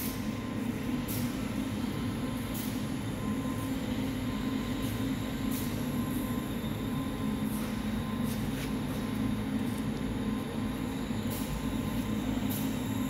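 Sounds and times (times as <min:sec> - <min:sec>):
faint steady whine: 0:00.0 - 0:13.0
machinery hum: 0:00.0 - 0:13.0.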